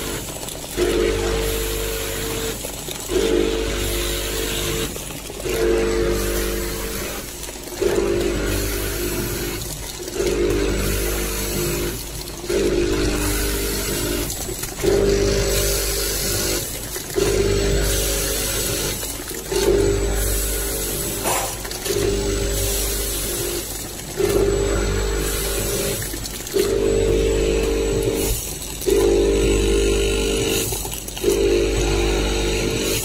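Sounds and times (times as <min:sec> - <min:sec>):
packing machine motor hum: 0:00.0 - 0:33.0.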